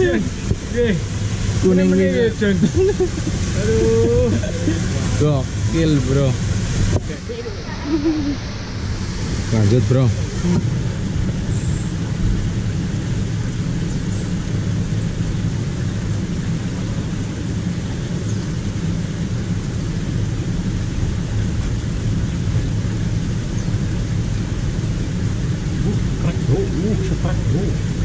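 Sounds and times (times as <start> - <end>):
water running through ditch: 0.0 - 28.0.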